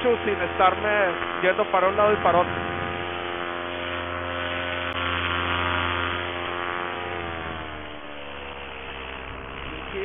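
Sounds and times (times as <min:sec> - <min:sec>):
paramotor engine droning: 0:00.0 - 0:10.0.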